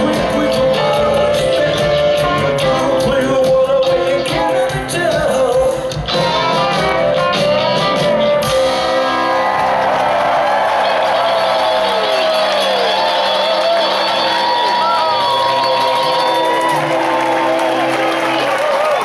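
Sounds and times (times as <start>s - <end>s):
person singing: 0.0s - 9.3s, 10.8s - 17.9s
drum kit: 0.0s - 19.0s
electric guitar: 0.0s - 19.0s.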